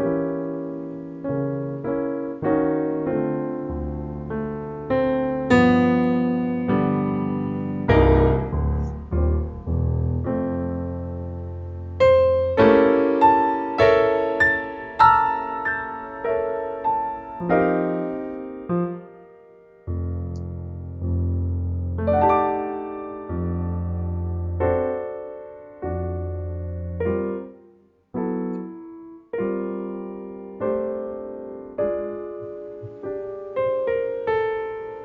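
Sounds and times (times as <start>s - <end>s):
slow solo piano: 0.0s - 35.0s.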